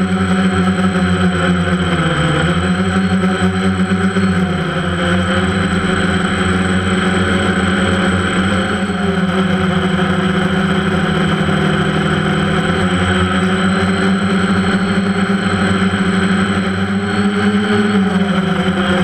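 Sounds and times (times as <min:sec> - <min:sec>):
drone motors humming: 0:00.0 - 0:19.0.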